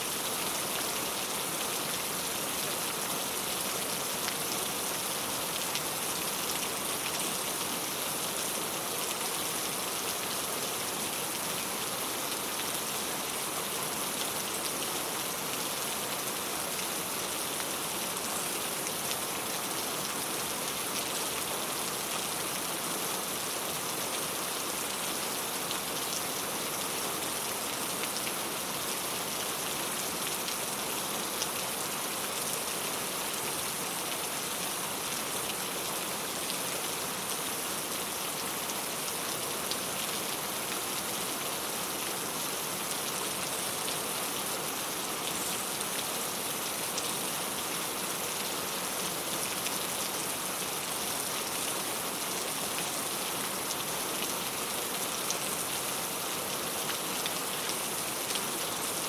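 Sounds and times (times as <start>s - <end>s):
rain on a tile roof: 0.0s - 59.0s.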